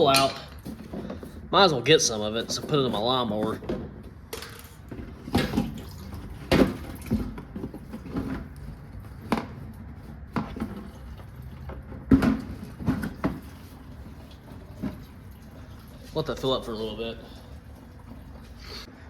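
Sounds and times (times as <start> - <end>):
objects knocking and clunking: 0.0 - 18.8.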